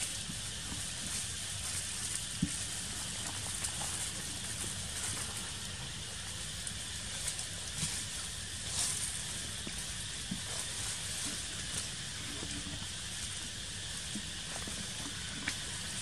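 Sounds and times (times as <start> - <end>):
dry leaves crackling and rustling: 0.0 - 16.0
high outdoor hiss: 0.0 - 16.0.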